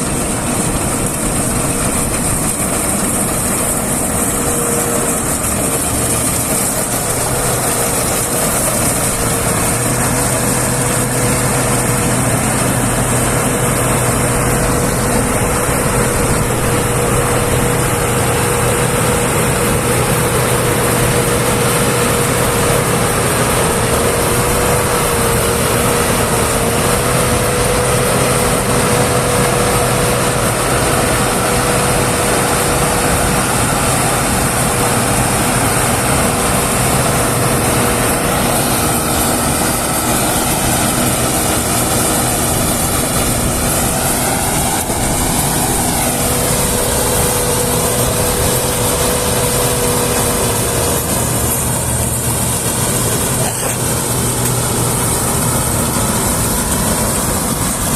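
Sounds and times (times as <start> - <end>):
combine harvester engine drone: 0.0 - 57.9
steady machine whine: 0.0 - 57.9.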